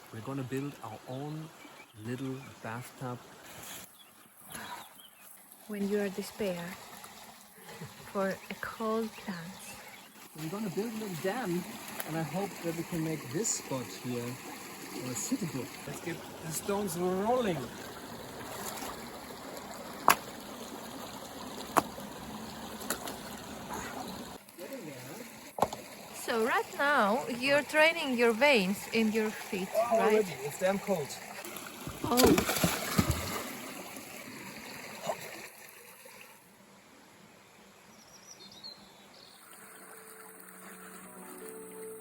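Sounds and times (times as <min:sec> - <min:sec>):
creek trickling over stones: 0:00.0 - 0:36.6, 0:39.2 - 0:42.0.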